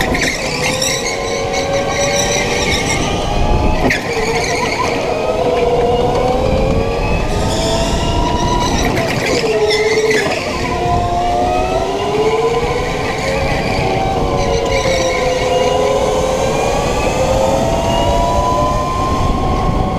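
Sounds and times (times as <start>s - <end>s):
go-kart engine whine: 0.0s - 19.9s.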